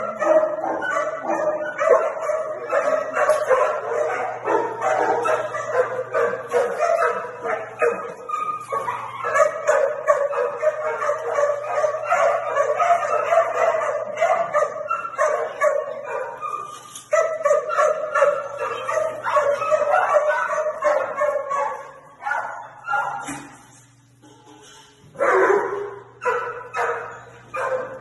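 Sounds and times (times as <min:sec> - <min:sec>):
many dogs barking and yipping: 0:00.0 - 0:23.5, 0:25.2 - 0:28.0
steady low hum: 0:00.0 - 0:28.0.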